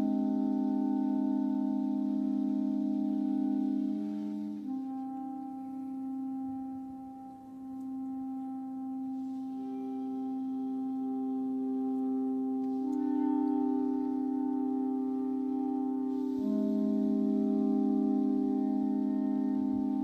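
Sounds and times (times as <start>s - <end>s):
clarinets holding a chord: 0.0s - 20.0s.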